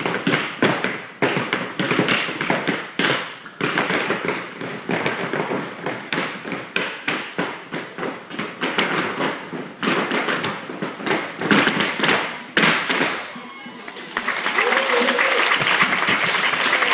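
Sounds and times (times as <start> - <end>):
tap dance steps: 0.0 - 16.9.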